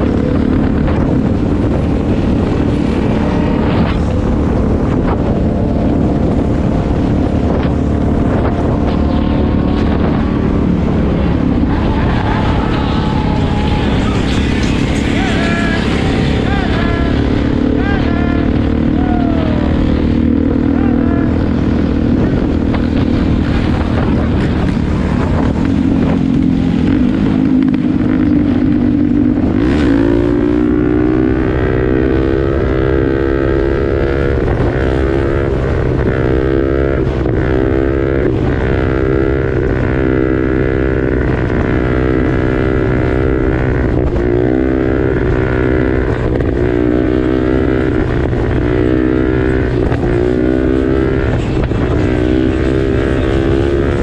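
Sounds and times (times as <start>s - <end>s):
motorcycle engine running: 0.0s - 54.0s
wind on microphone: 0.0s - 54.0s.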